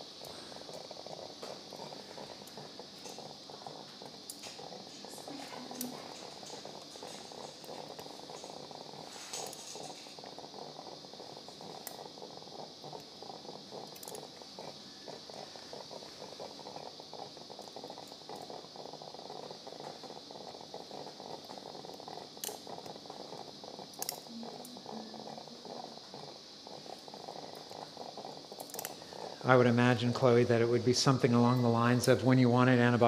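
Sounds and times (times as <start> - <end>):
operating room hum: 0.0 - 33.0.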